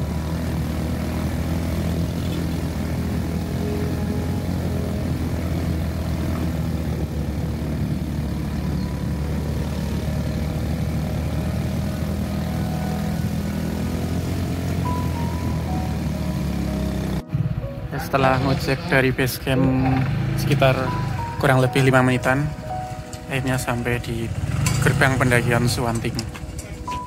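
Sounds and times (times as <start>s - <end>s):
motorcycle engine droning: 0.0s - 27.0s.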